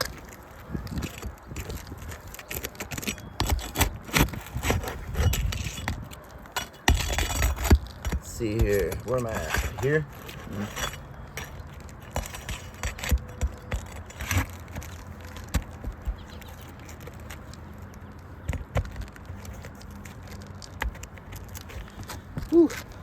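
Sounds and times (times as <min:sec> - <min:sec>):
pry bar clicking and scraping shingles: 0:00.0 - 0:23.0.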